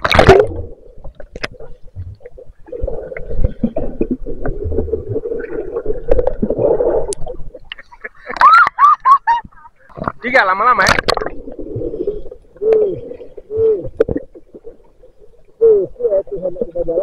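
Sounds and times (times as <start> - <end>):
underwater rumbling and bubbling: 0.0 - 17.0.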